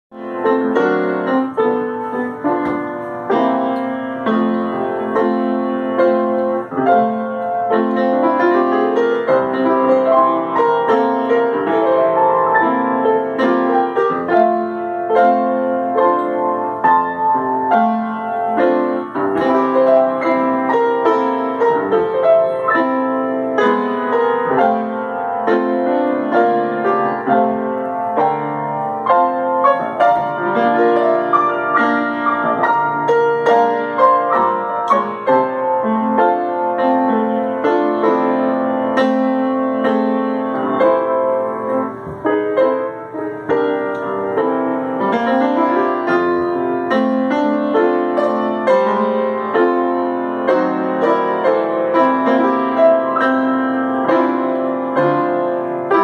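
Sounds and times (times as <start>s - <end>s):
upright piano playing gospel chords: 0.1s - 56.0s.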